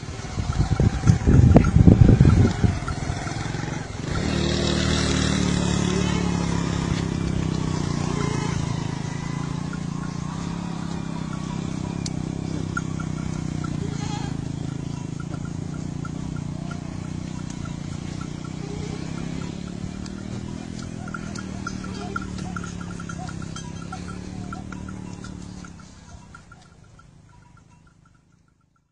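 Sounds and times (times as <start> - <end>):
wind buffeting microphone: 0.0 - 26.6
engine running steadily: 0.0 - 28.8.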